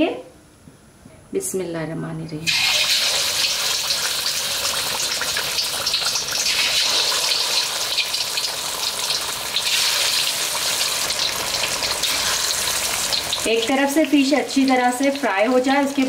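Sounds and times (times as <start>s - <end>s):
fish deep-frying in hot oil: 2.5s - 16.0s.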